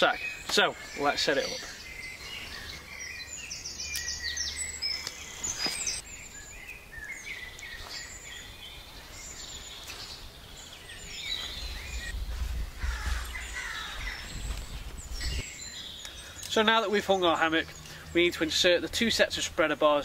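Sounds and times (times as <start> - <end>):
woodland birds singing: 0.0 - 20.0.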